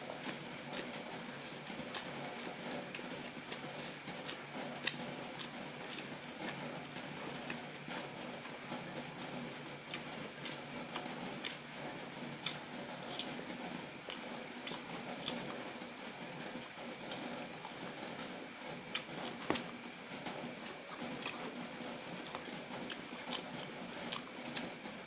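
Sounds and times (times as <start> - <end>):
person chewing noodles: 0.1 - 24.8.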